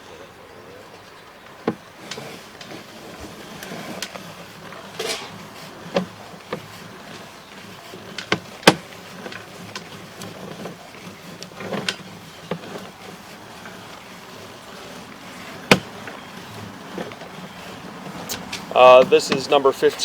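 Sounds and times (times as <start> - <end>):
cable and reel clicking: 1.4 - 20.0.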